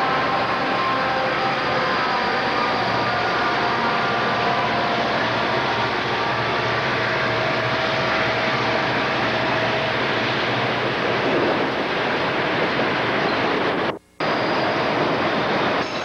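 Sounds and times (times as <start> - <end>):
faint steady whine: 0.0 - 16.0
locomotive engines rumbling: 0.0 - 16.0.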